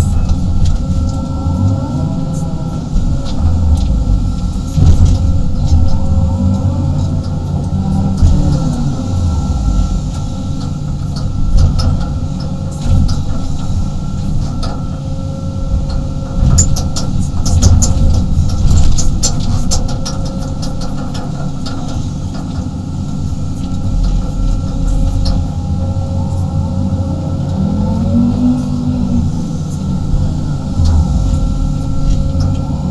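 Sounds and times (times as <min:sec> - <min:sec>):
excavator engine and hydraulics whine: 0:00.0 - 0:32.9.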